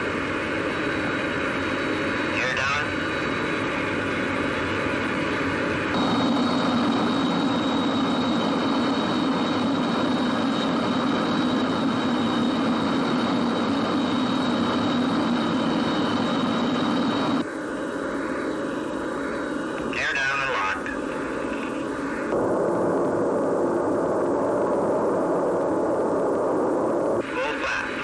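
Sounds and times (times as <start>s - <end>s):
high turbine whine: 0.0s - 28.0s
jet engines rushing: 0.0s - 28.0s.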